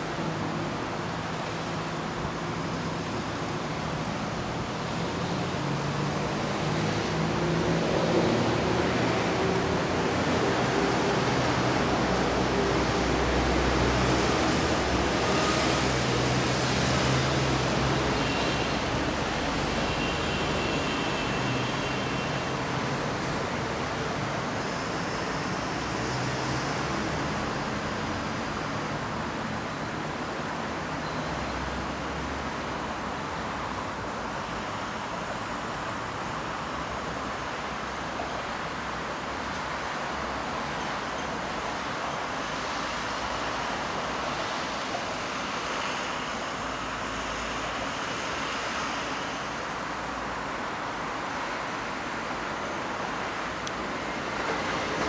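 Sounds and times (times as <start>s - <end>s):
distant city traffic hiss: 0.0s - 55.0s.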